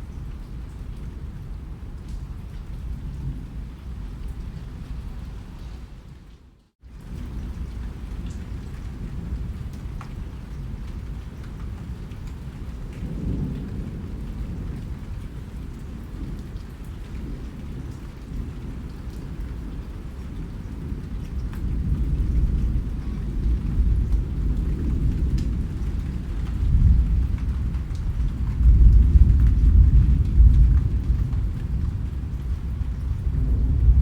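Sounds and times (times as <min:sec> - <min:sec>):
low rumble of thunder: 0:00.0 - 0:06.3, 0:06.9 - 0:34.0
rain falling: 0:00.0 - 0:34.0.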